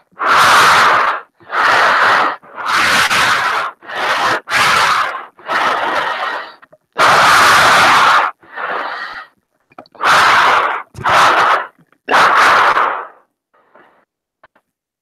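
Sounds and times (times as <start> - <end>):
breathing in scuba mask: 0.1 - 2.9, 3.7 - 11.9, 12.9 - 14.1.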